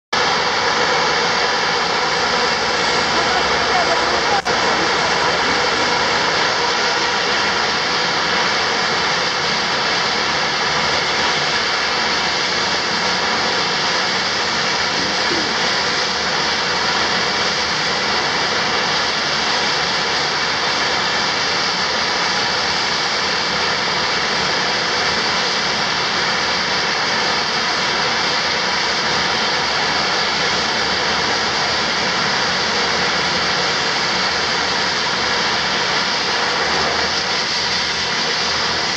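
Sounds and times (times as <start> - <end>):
high engine whine: 0.1 - 38.9
turboprop engines idling: 0.2 - 38.9.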